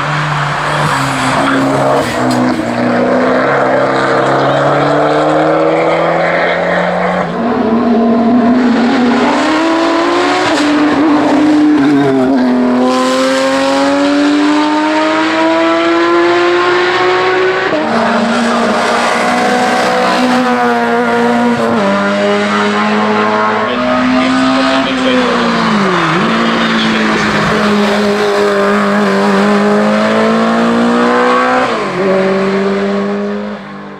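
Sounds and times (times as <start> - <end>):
race car engine at full throttle: 0.0 - 33.9.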